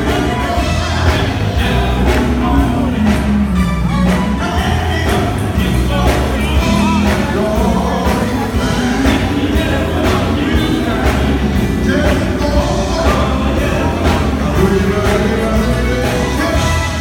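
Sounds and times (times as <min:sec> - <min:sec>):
gospel band playing: 0:00.0 - 0:17.0
man singing into a microphone: 0:00.0 - 0:17.0.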